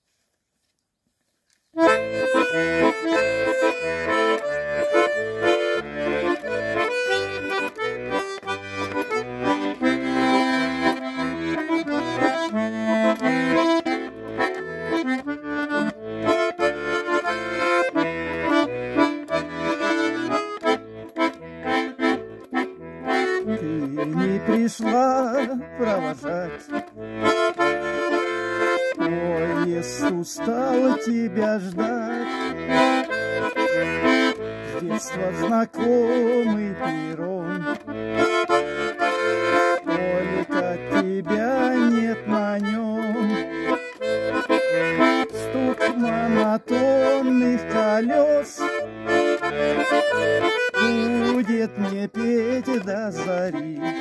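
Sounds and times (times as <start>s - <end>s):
accordion playing: 1.7s - 54.0s.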